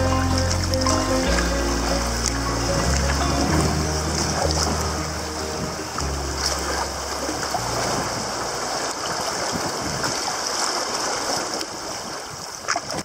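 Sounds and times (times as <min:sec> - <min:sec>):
sea water rushing around kayak: 0:00.0 - 0:13.0.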